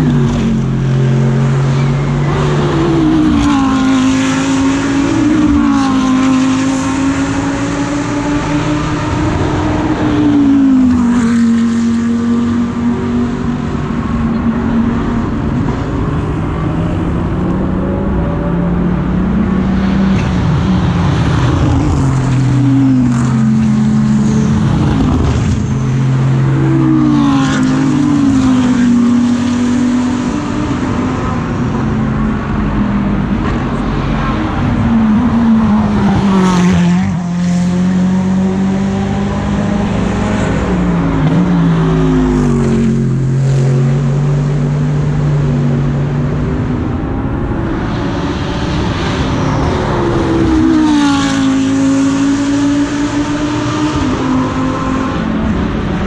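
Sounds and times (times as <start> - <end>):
race car engines shifting gears: 0.0 - 56.0.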